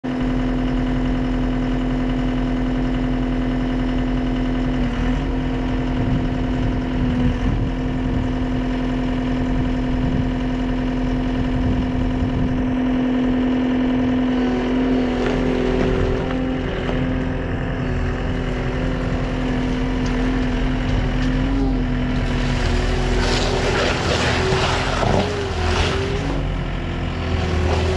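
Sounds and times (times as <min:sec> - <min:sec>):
diesel engine running steadily: 0:00.0 - 0:27.9.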